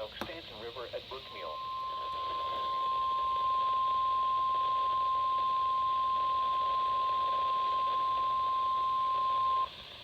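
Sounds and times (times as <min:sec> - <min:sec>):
faint radio hiss: 0:00.0 - 0:10.0
steady alarm beep: 0:01.2 - 0:09.7.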